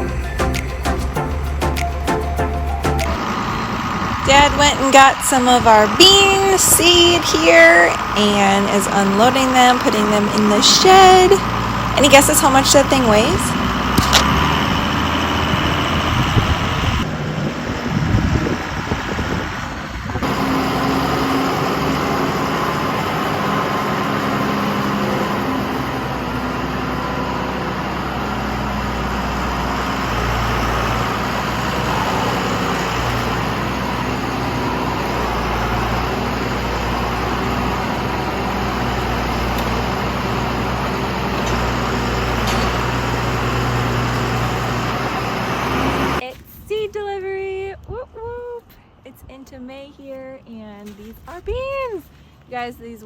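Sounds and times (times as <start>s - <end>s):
engine running with low drone: 0.0s - 46.2s.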